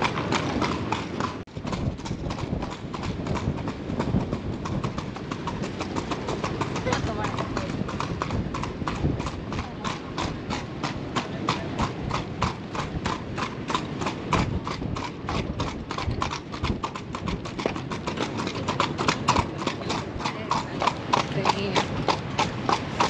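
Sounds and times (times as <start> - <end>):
horse hooves clip-clopping: 0.0 - 23.0.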